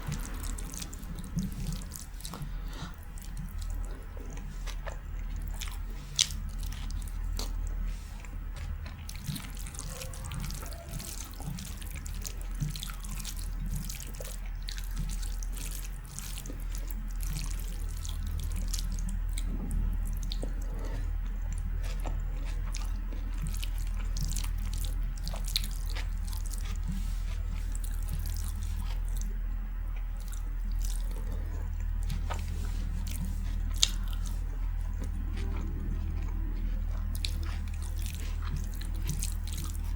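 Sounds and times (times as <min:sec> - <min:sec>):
low hum: 0:00.0 - 0:39.9
wet chewing and mouth clicks: 0:00.0 - 0:39.9.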